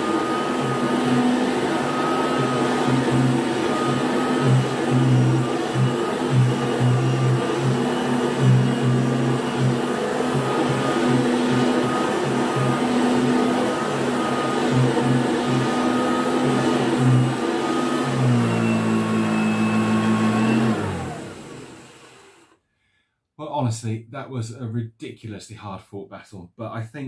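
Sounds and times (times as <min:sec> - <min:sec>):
vacuum cleaner running on carpet: 0:00.0 - 0:22.6
vacuum motor winding down: 0:00.0 - 0:22.6.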